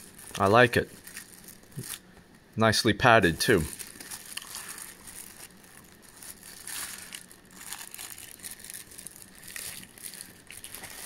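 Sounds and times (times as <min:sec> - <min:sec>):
plastic wrapping crinkling: 0:00.0 - 0:02.1, 0:03.3 - 0:11.0.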